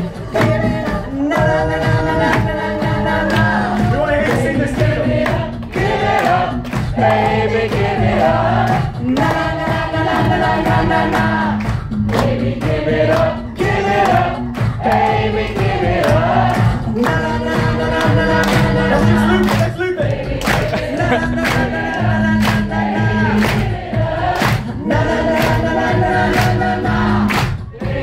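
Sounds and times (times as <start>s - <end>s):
beatboxed vocal percussion: 0.0s - 28.0s
male group singing in harmony: 0.0s - 28.0s.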